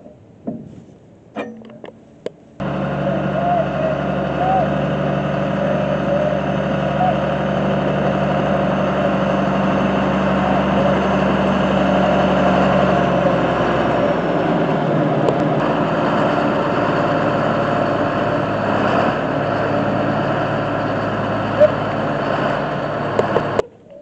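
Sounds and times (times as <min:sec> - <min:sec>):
tractor diesel engine idling: 0:02.6 - 0:23.9.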